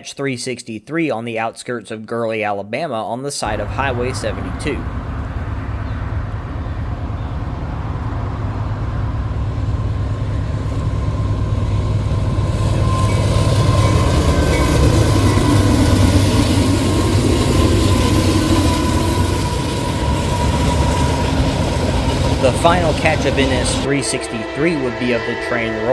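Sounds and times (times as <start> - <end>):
freight train passing: 3.4 - 25.9
thin steady whine: 3.5 - 25.9.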